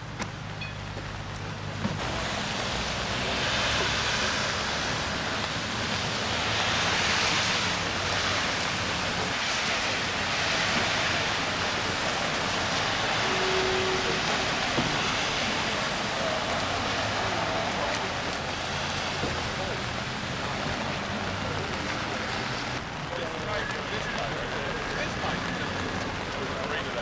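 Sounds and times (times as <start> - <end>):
rain hissing: 0.4 - 27.0.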